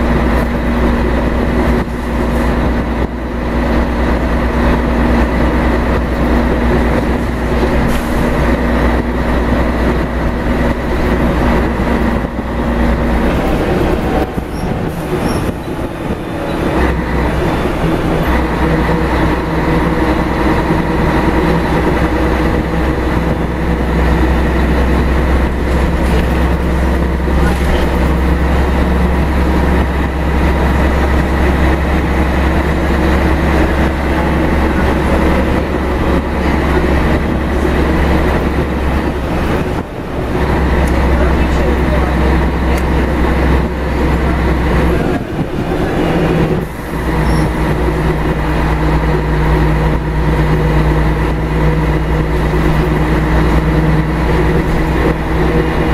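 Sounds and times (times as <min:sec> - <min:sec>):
bus diesel engine hum: 0:00.0 - 0:55.9
road noise: 0:00.0 - 0:55.9.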